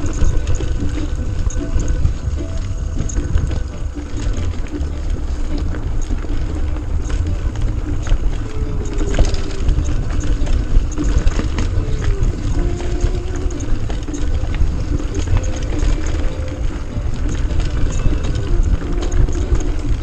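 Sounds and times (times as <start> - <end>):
bike clicks and rattles: 0.0 - 20.0
wind rumbling on microphone: 0.0 - 20.0.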